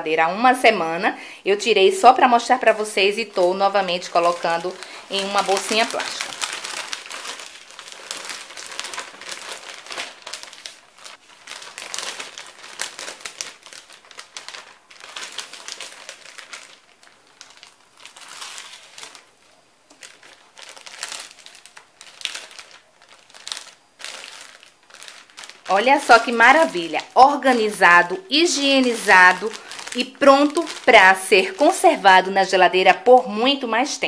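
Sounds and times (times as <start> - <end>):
plastic bag crinkling: 1.6 - 33.8.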